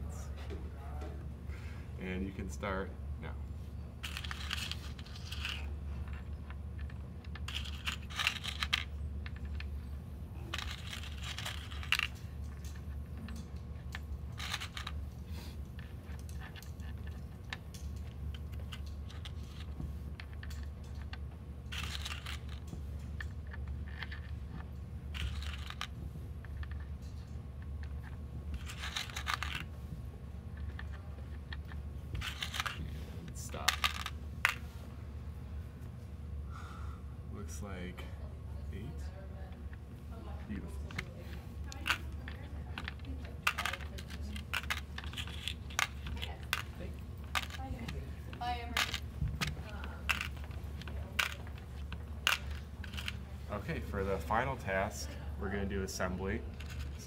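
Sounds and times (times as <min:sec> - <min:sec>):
steady low hum: 0:00.0 - 0:57.0
metal pins clinking and rattling: 0:04.0 - 0:29.9, 0:30.5 - 0:34.8, 0:40.6 - 0:55.6, 0:56.3 - 0:57.0.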